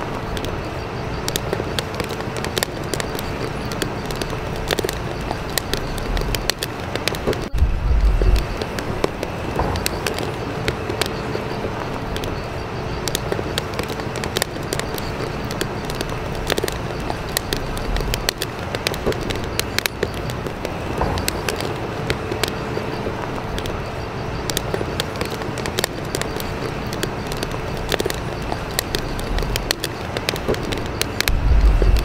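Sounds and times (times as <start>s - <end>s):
faint hum: 0.0s - 32.0s
rushing noise: 0.0s - 32.0s
small clicks and crackles: 0.0s - 32.0s.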